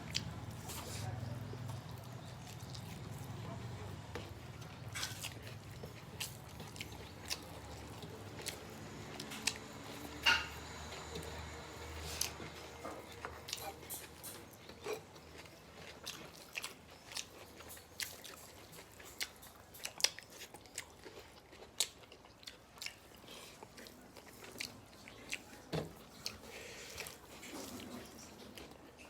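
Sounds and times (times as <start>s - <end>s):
chewing and lip smacks: 0.0s - 0.9s, 1.6s - 29.0s.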